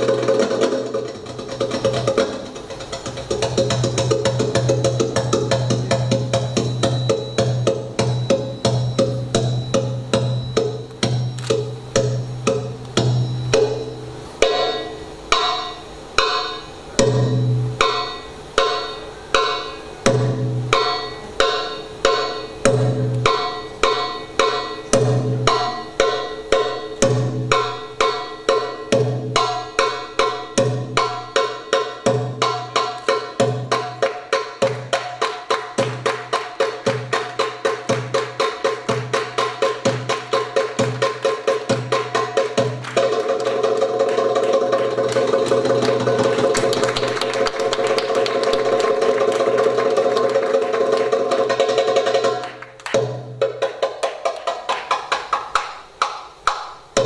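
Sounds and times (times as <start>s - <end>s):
hand drums playing fast rhythm: 0.0s - 57.0s.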